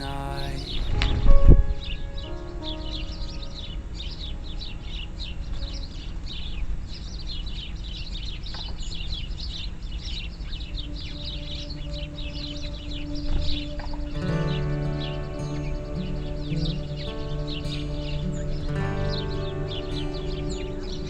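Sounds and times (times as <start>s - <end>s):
songbirds chirping: 1.8s - 21.0s.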